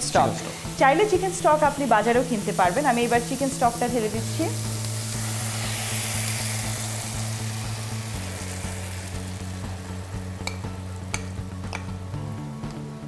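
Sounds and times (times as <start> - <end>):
stock hissing in hot pan: 0.2 - 11.5.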